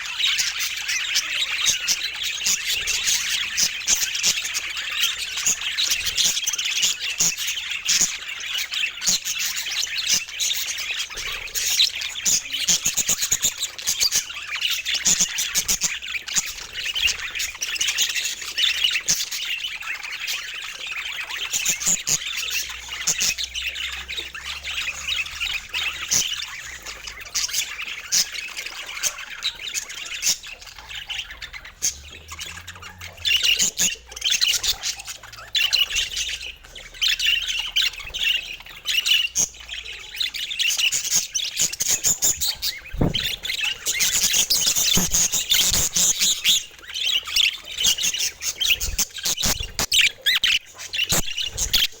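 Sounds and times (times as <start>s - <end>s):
budgerigars chattering and chirping: 0.0s - 52.0s.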